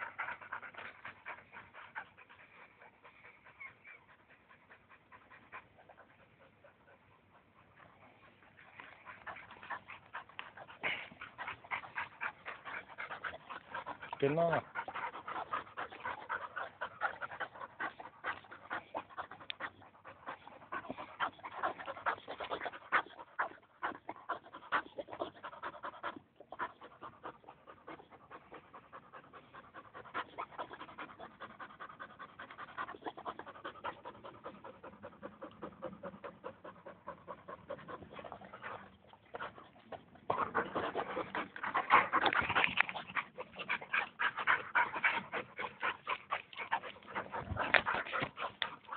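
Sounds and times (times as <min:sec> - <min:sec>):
dog panting: 0:00.0 - 0:48.9.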